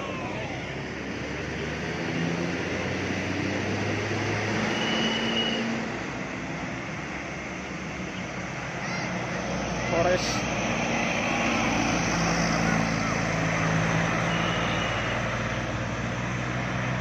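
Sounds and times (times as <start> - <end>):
bus driving past: 0.0 - 17.0.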